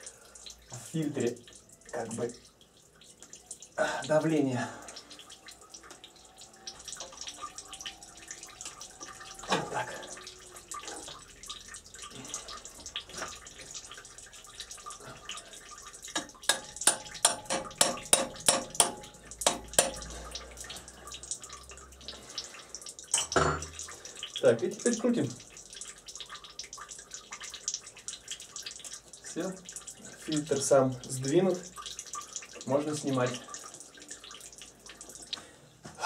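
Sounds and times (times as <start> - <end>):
oil streaming into pan: 0.0 - 36.0.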